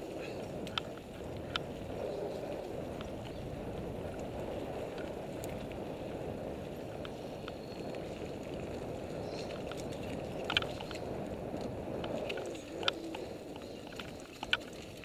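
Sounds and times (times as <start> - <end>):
bike rattles and clicks: 0.0 - 15.0
bike tyres on dirt trail: 0.0 - 15.0.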